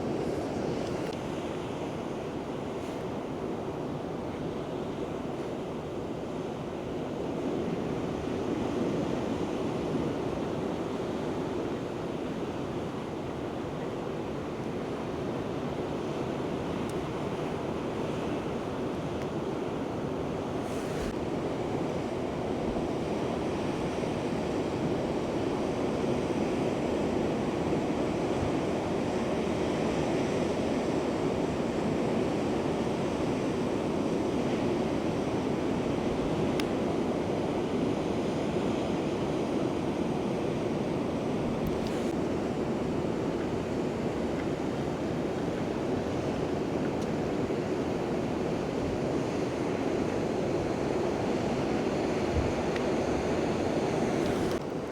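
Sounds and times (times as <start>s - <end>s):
ocean surf rushing: 0.0s - 54.9s.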